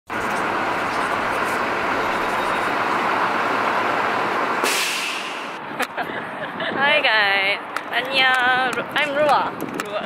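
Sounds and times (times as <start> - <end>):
city street traffic roar: 0.1 - 10.0.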